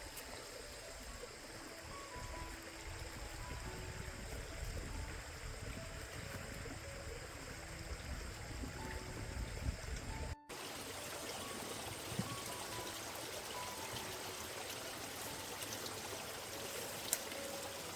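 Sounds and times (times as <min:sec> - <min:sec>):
flowing water: 0:00.0 - 0:17.9
soft melodic background music: 0:00.0 - 0:17.9.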